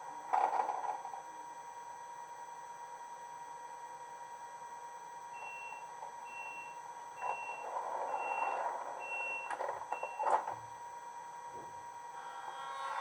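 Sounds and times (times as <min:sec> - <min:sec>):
faint electronic whine: 0:00.0 - 0:13.0.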